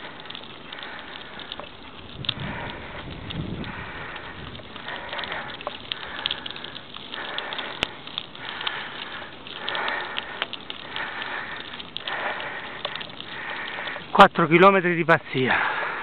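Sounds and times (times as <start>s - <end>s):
cyclist breathing hard: 0.0s - 14.2s, 15.2s - 16.0s
bike ticking and crackling: 0.0s - 16.0s.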